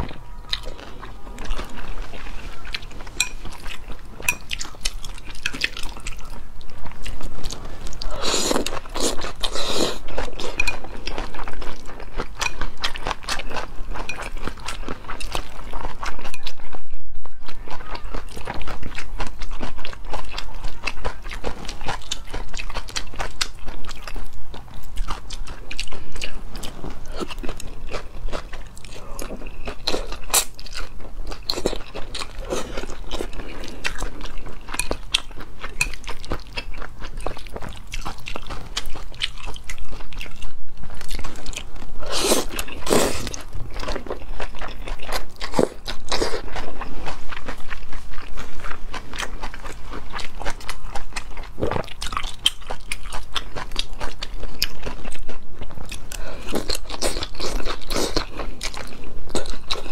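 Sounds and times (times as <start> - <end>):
wet chewing and crunching: 0.0 - 59.9.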